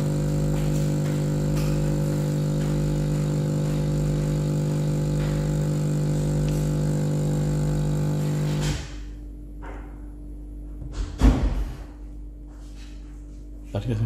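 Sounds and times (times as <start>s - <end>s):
coffee machine pump humming: 0.0s - 13.4s.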